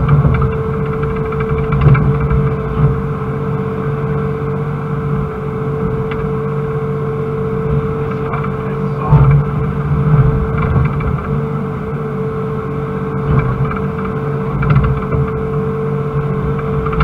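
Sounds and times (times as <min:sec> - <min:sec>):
excavator diesel engine rumble: 0:00.0 - 0:17.0
hydraulic whine: 0:00.0 - 0:17.0.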